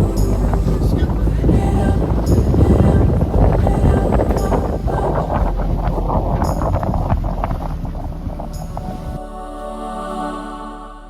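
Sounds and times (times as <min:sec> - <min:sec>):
wind buffeting microphone: 0:00.0 - 0:09.2
background music: 0:00.0 - 0:11.0.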